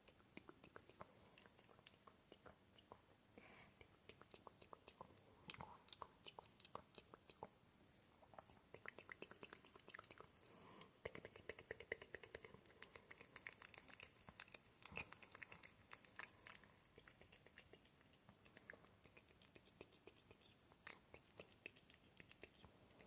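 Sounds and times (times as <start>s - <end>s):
tongue clicks: 0.0s - 3.1s, 3.8s - 7.5s, 8.3s - 23.0s
lip smacks: 0.0s - 3.2s, 3.8s - 7.6s, 8.2s - 23.0s.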